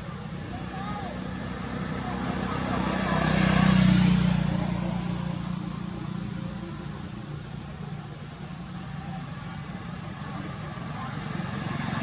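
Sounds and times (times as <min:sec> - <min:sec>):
low engine hum: 0:00.0 - 0:12.0
motorbike engine passing: 0:00.0 - 0:12.0.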